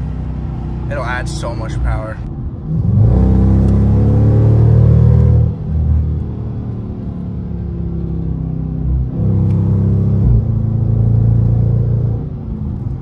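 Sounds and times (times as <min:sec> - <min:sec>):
car engine and exhaust from cabin: 0:00.0 - 0:13.0.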